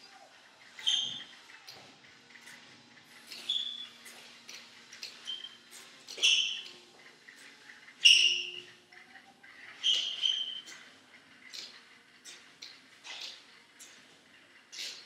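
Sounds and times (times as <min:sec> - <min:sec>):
walker squeaking on tiled floor: 0:00.0 - 0:13.6
faint squeaks and ticks: 0:00.0 - 0:15.0.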